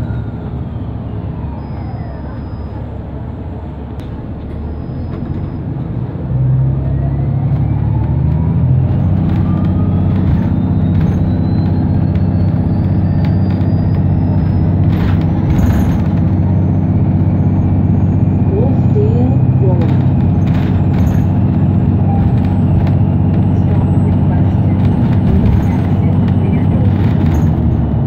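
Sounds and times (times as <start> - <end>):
bus drivetrain drone: 0.0 - 28.0.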